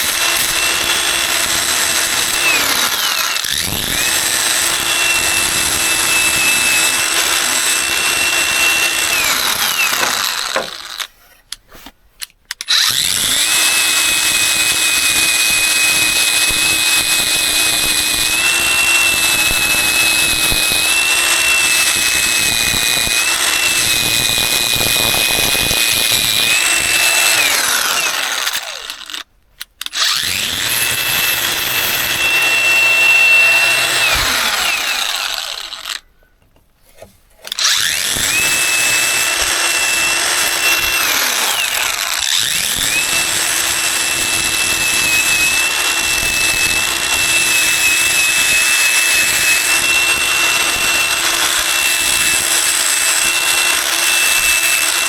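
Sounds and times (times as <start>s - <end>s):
power tool motor whining: 0.0s - 11.1s, 12.5s - 29.2s, 29.8s - 36.0s, 37.4s - 55.0s.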